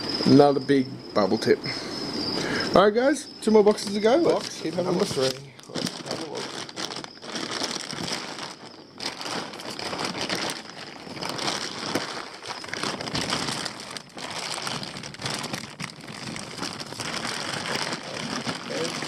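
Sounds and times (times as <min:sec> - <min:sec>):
plastic bags and paper crinkling: 0:03.5 - 0:19.0.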